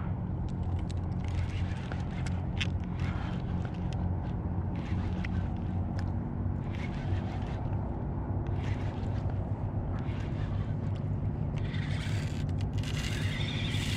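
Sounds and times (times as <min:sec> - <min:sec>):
boat motor humming: 0:00.0 - 0:13.9.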